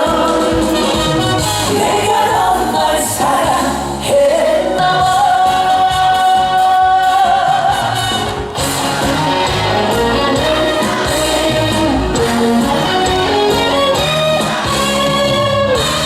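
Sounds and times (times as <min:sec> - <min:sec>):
live song with band backing: 0:00.0 - 0:16.0.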